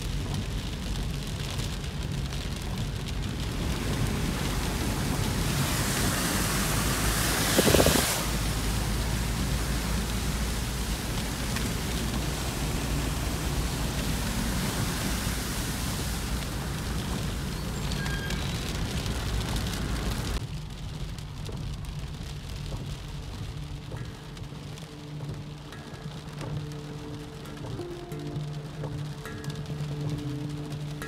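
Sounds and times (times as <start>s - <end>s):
water rushing: 1.7s - 20.4s, 23.0s - 31.0s.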